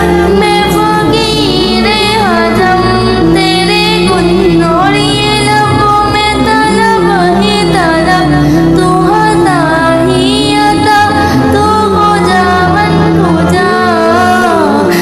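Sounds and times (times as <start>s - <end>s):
high voice singing devotional song: 0.0s - 15.0s
sustained musical backing: 0.0s - 15.0s.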